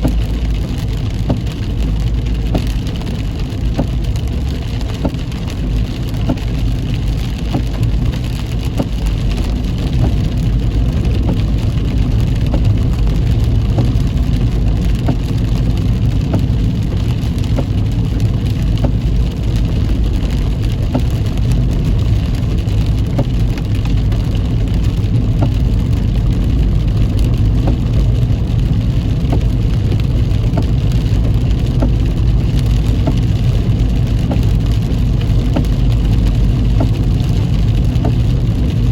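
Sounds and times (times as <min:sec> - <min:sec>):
car engine and tyres on wet road: 0:00.0 - 0:38.9
rain spattering on car: 0:00.0 - 0:38.9.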